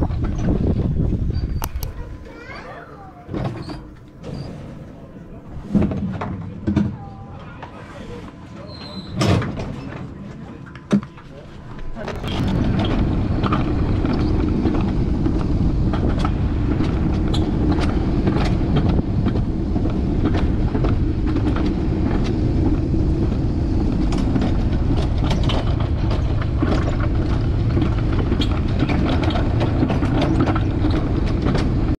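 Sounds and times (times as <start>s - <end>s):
coaster sled rumbling on track: 0.0s - 31.9s
wheels rattling on rails: 0.0s - 31.9s.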